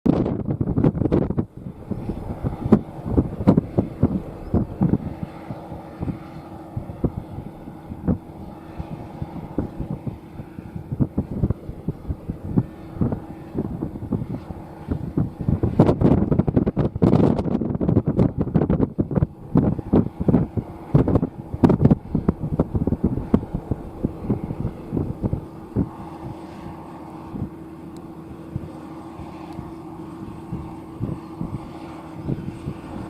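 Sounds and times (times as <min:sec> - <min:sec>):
wind buffeting microphone: 0:00.0 - 0:33.0
tractor engine running: 0:00.8 - 0:33.0.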